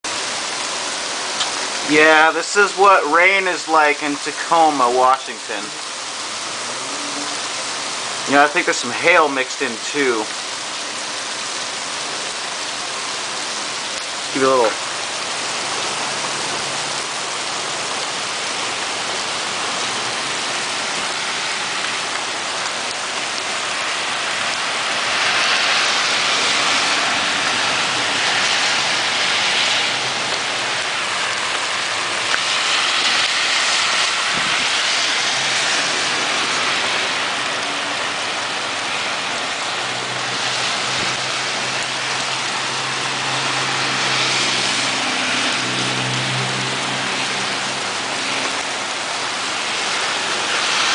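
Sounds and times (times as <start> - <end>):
cars passing through water: 0.0 - 50.9
heavy rain and hail on street: 0.0 - 50.9.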